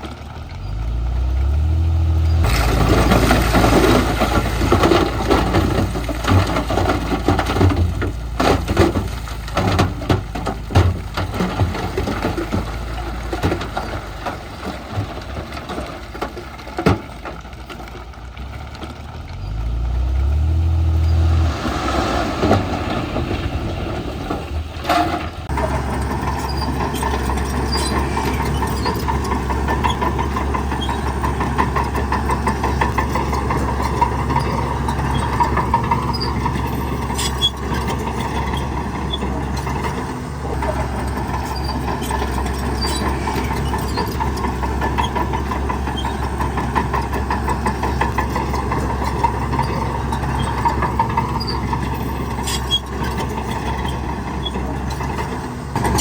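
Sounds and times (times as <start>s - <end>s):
heavy diesel engine: 0.0s - 56.0s.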